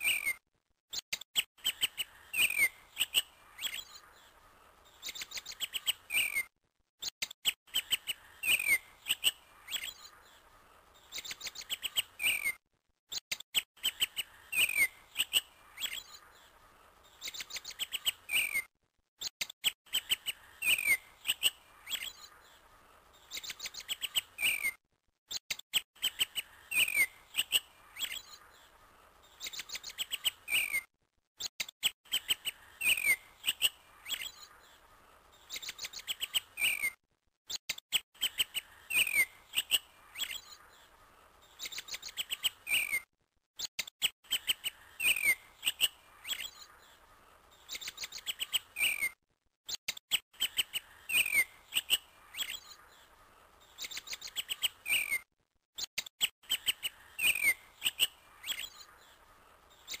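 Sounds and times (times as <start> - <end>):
small birds chirping: 0.0 - 60.0.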